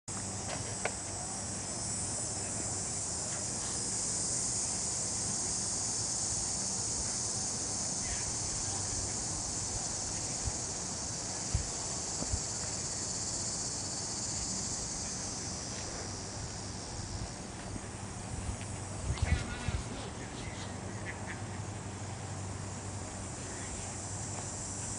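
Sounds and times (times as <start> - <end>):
high-pitched insect chorus: 0.1 - 24.9.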